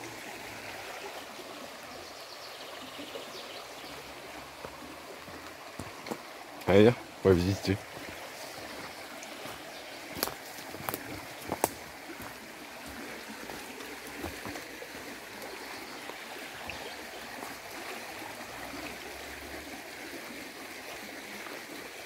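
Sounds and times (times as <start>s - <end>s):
river running over stones: 0.0s - 22.0s.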